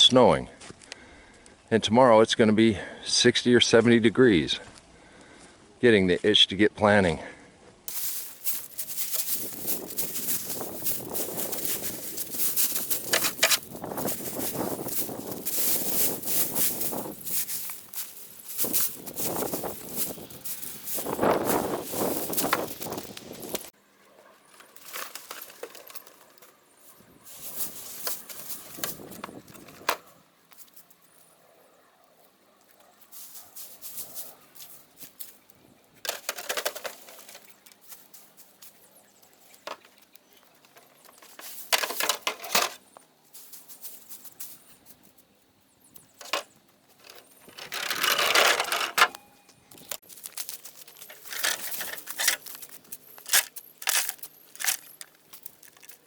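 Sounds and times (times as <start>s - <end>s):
rustling and crunching in dry mulch: 7.9s - 31.5s, 32.1s - 49.0s, 49.6s - 56.0s.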